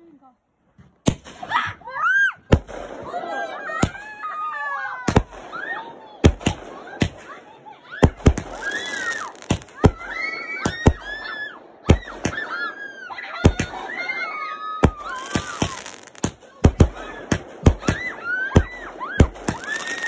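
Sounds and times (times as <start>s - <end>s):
fireworks bursting with crackle: 1.0s - 1.6s, 2.4s - 20.0s
onlookers shrieking and whooping: 1.4s - 20.0s.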